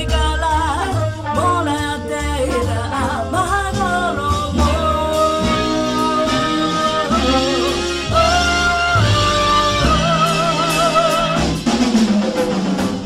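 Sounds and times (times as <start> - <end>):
woman singing with vibrato: 0.0 - 11.7
band backing with bass line: 0.0 - 13.0.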